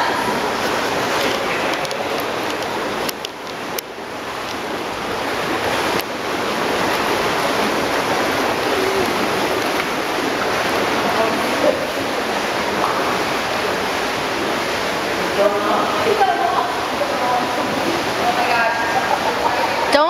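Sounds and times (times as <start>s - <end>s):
rushing noise of indoor pool: 0.0s - 20.0s.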